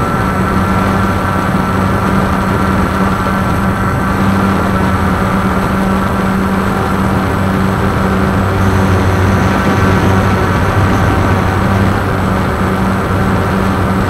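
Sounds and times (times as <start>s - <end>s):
quadcopter motors humming: 0.0s - 14.0s.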